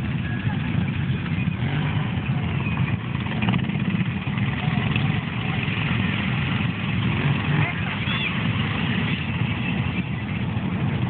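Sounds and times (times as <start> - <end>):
atv engines running at low revs: 0.0 - 11.0.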